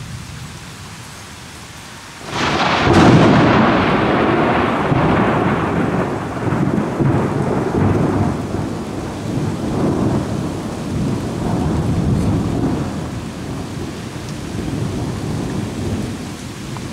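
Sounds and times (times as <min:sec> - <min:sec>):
steady rainfall: 0:00.0 - 0:16.9
rolling thunder: 0:02.2 - 0:16.9.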